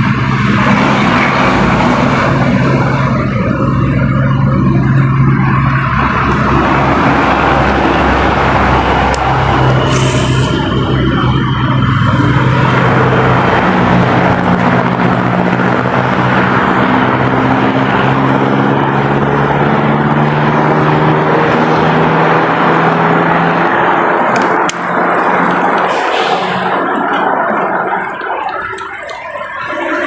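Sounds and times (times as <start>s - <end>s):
vehicle engine running: 0.0s - 30.0s
wind and road noise: 0.0s - 30.0s.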